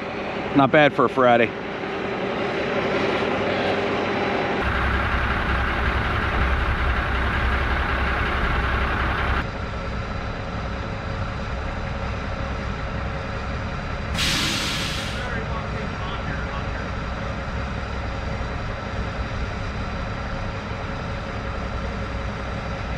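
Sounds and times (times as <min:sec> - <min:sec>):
diesel truck engine idling: 0:00.2 - 0:22.9.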